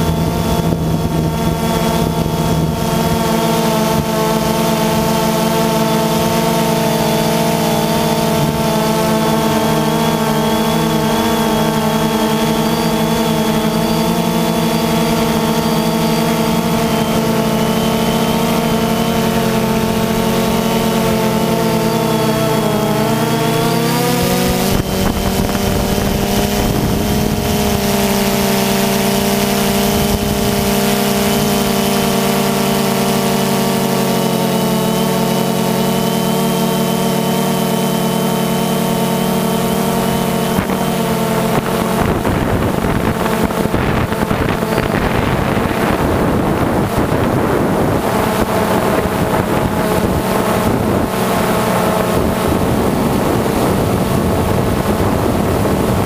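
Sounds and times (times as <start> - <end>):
drone propellers whining: 0.0 - 56.0
wind noise on microphone: 0.0 - 56.0.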